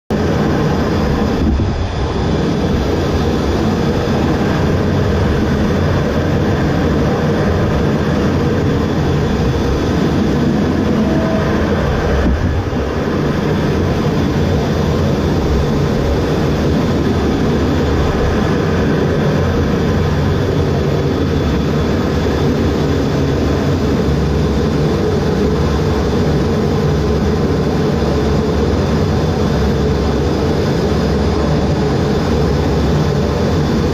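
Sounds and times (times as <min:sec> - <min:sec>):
loud jet engine noise: 0:00.1 - 0:33.9.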